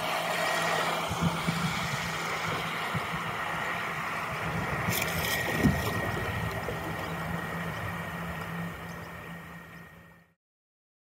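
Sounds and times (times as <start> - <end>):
hull rushing through water: 0.0 - 10.2
electric motor whine: 0.0 - 10.3.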